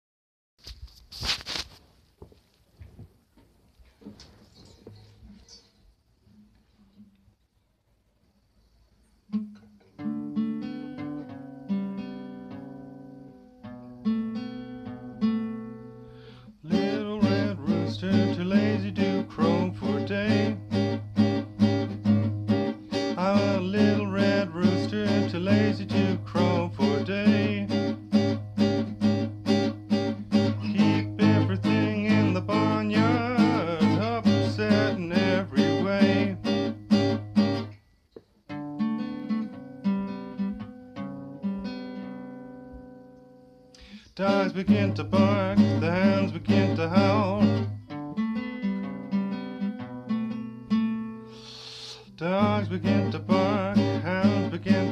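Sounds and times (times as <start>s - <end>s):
acoustic guitar blues: 9.3s - 37.8s, 38.5s - 54.9s.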